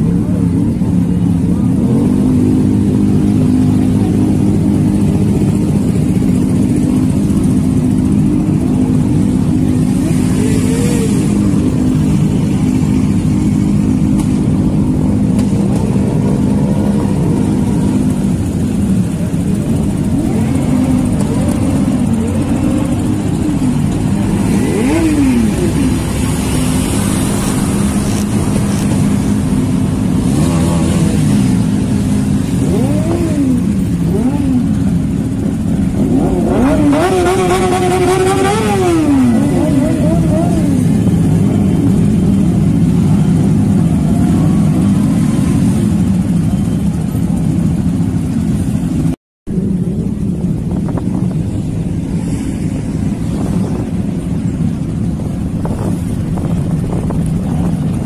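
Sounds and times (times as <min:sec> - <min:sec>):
motorcycle engines idling and revving: 0:00.0 - 0:58.0.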